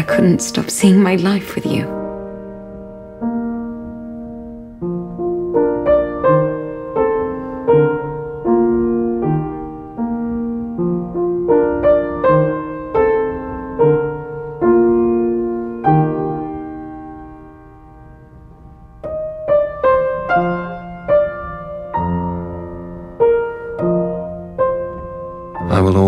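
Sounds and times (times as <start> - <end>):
soft solo piano: 0.0 - 26.0.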